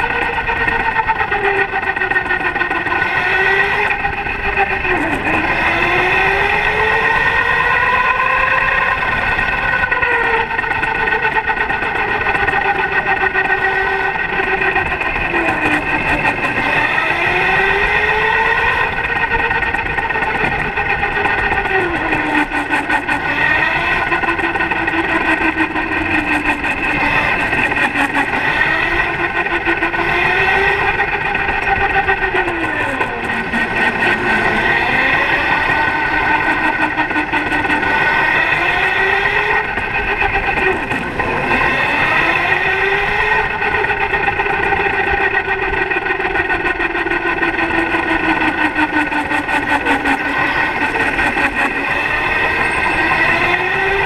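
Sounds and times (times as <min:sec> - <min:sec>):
electric go-kart motor whining: 0:00.0 - 0:54.0
steady high whine: 0:00.0 - 0:54.0.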